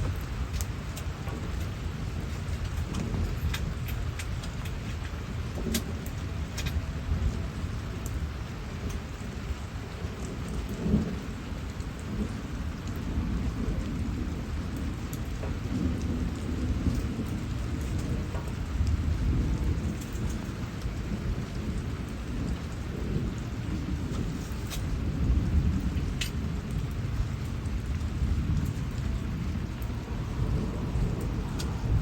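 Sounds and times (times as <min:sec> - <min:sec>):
rain falling: 0:00.0 - 0:32.0
thunder rumbling: 0:00.0 - 0:32.0.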